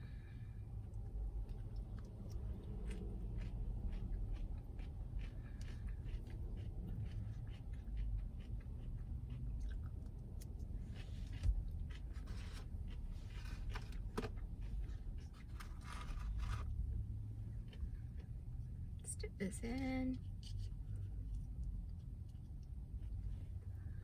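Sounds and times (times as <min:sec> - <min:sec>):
chewing and crunching: 0:00.0 - 0:24.0
steady low rumble: 0:00.0 - 0:24.0.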